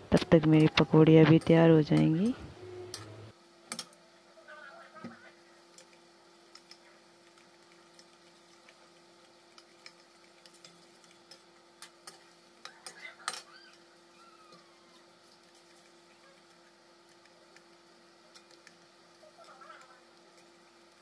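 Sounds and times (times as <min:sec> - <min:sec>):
frying in hot oil: 0:00.0 - 0:21.0.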